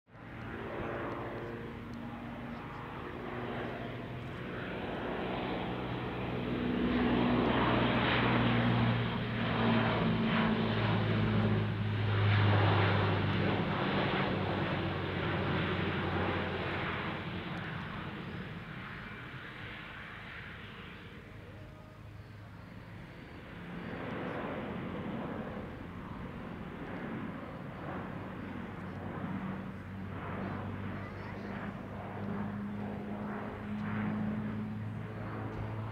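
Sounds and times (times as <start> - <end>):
turboprop aircraft in flight: 0.1 - 35.9.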